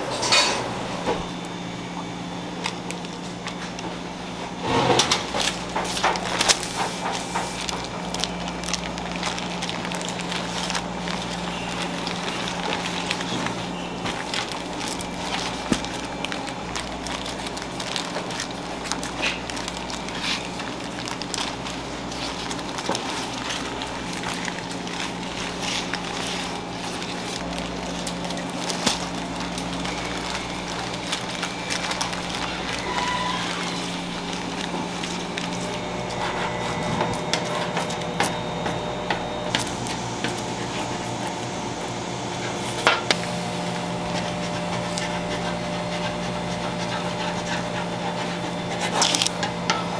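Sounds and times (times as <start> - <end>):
kitchen machinery hum: 0.0 - 49.9
baking paper crinkling: 2.3 - 49.9.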